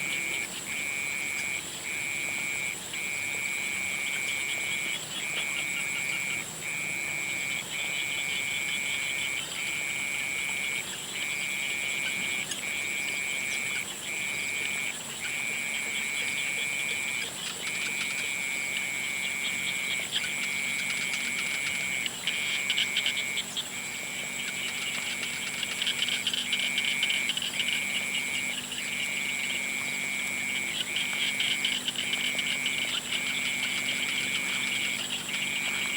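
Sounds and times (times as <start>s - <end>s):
crackly pulsing frog calls: 0.0s - 35.9s
frogs trilling: 0.0s - 35.9s.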